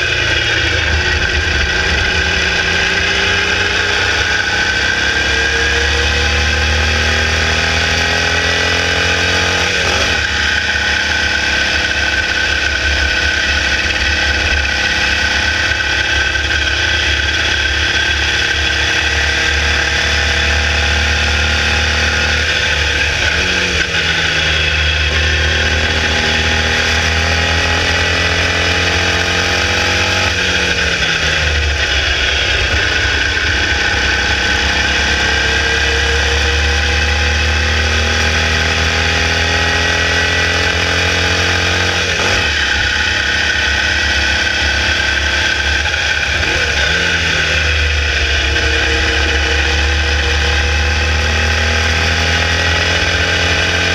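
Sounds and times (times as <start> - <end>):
engine at full throttle: 0.0 - 53.9.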